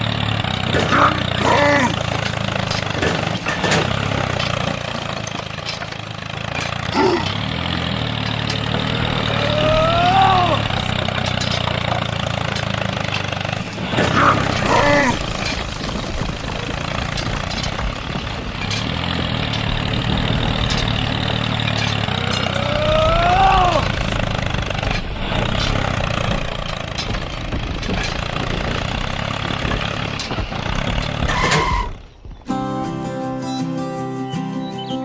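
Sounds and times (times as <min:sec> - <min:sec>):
vehicle engine humming: 0:00.0 - 0:35.0.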